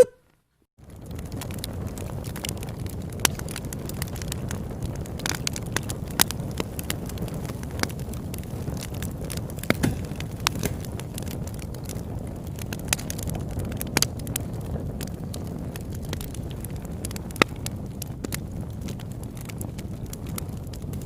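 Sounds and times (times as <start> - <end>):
fire crackles and pops: 0.2 - 21.0
campfire rumble: 0.7 - 21.0.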